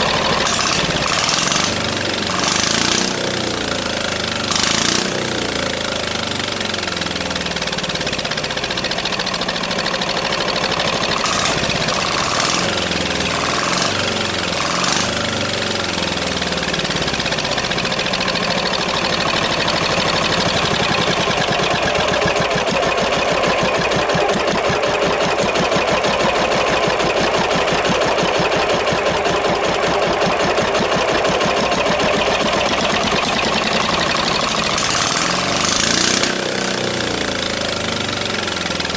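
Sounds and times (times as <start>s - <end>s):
single-cylinder diesel engine running: 0.0s - 38.9s.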